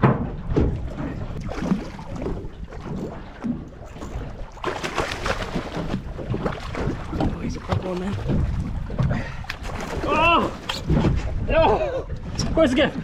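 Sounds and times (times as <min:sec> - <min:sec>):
boat low rumble: 0:00.0 - 0:13.0
wind buffeting microphone: 0:00.0 - 0:13.0.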